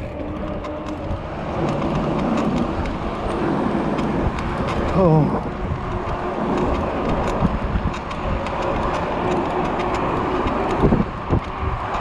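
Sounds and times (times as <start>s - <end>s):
bicycle rolling noise: 0.0s - 12.0s
rushing wind: 0.0s - 12.0s.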